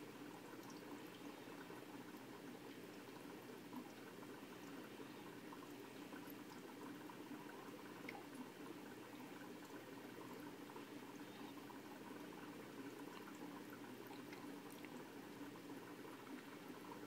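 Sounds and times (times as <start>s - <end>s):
aquarium water bubbling: 0.0s - 17.0s.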